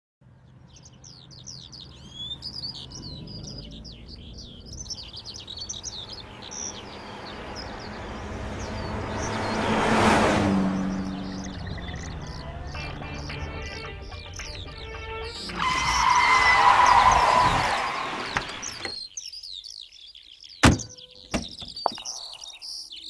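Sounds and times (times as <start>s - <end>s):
birds chirping: 0.2s - 23.0s
car approaching: 0.3s - 18.9s.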